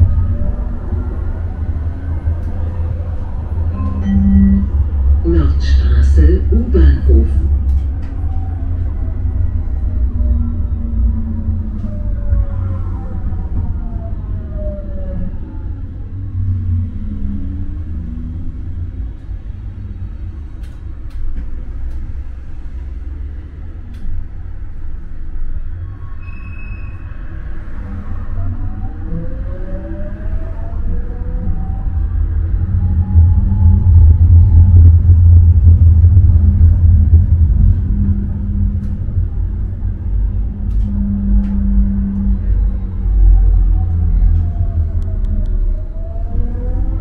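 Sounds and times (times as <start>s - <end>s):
low motor hum: 0.0s - 25.4s, 27.6s - 47.0s
tram rumbling on rails: 0.0s - 47.0s.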